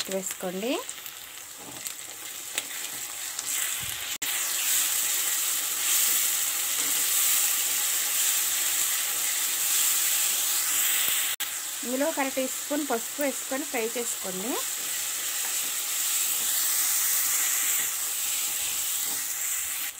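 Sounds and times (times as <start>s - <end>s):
paste sizzling in hot oil: 0.0s - 19.9s.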